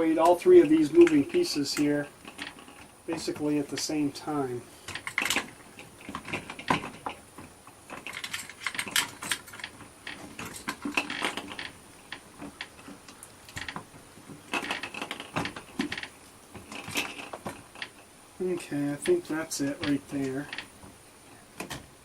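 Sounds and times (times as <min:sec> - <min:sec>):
door lock parts clicking and rattling: 0:00.1 - 0:18.2, 0:19.0 - 0:22.0.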